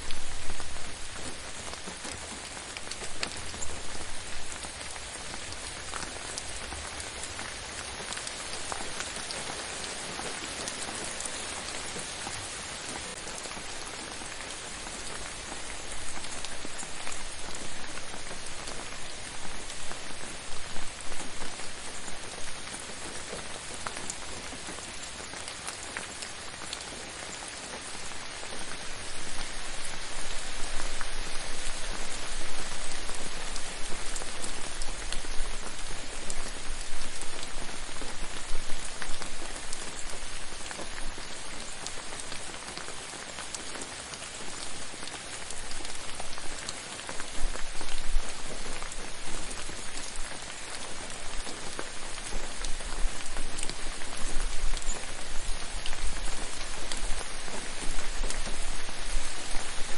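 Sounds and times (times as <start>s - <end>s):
gentle rain patter: 0.0s - 59.9s.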